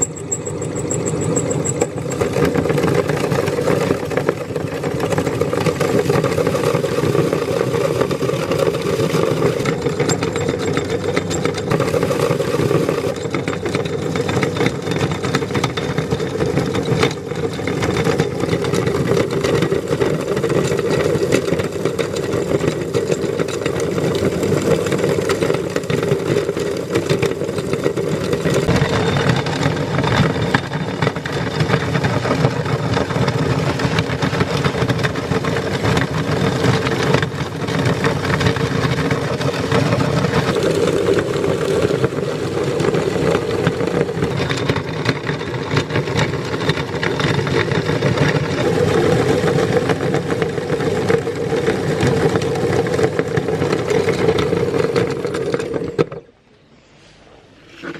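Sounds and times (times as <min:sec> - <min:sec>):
meat grinder motor humming: 0:00.0 - 0:55.8.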